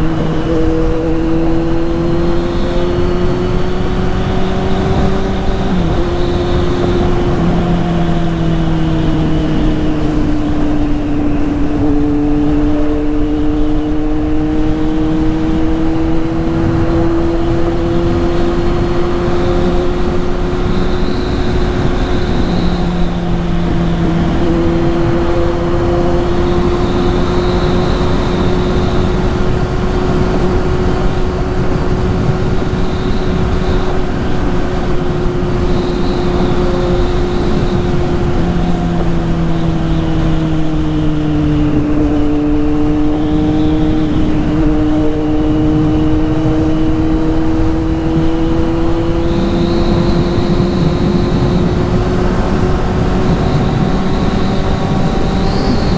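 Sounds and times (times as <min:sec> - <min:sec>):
loud motorcycle engine running: 0:00.0 - 0:55.9.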